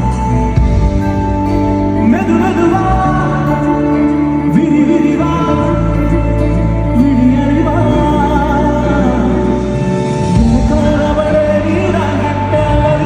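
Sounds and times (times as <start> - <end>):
held bass: 0.0 - 13.0
person singing: 0.0 - 13.0
sustained instrumental chords: 0.0 - 13.0.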